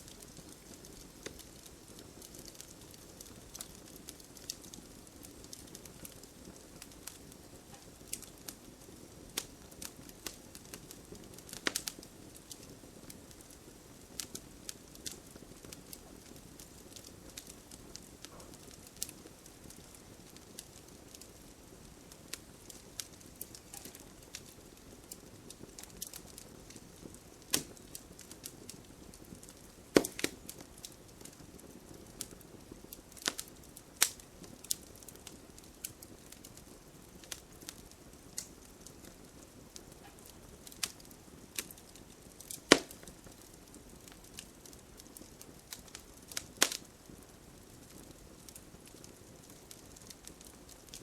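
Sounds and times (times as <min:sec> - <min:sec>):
fire crackling and popping: 0:00.0 - 0:51.0
flame rustling: 0:00.0 - 0:51.0.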